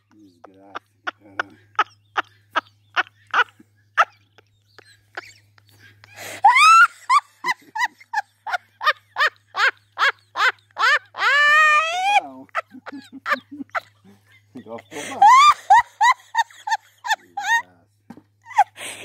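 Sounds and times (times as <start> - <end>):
person laughing hard: 0.2 - 17.7.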